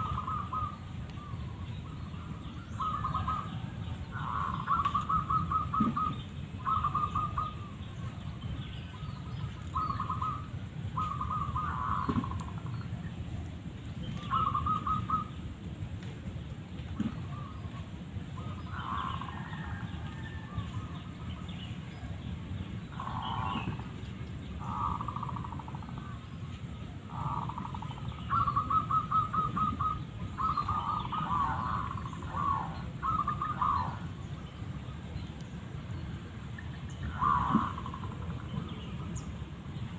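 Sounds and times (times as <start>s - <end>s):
doves cooing: 0.0s - 15.6s, 16.8s - 34.5s, 36.0s - 39.9s.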